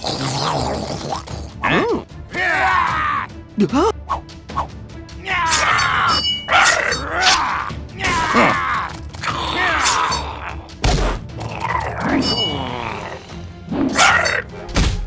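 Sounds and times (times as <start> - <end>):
creature groaning and grunting: 0.0 - 4.0, 5.2 - 14.6
background music: 0.0 - 15.0.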